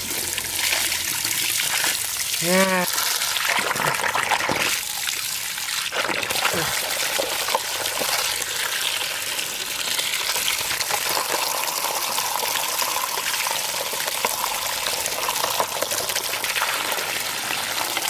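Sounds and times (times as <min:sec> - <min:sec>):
water pouring and splashing: 0:00.0 - 0:18.0.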